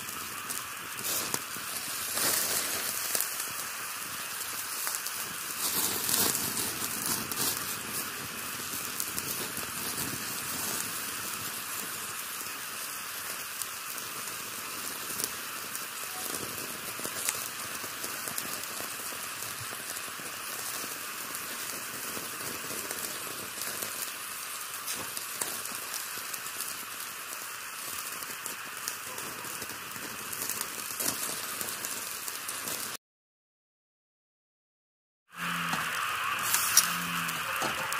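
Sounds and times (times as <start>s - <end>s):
meat sizzling on a grill: 0.0s - 33.0s, 35.3s - 37.9s.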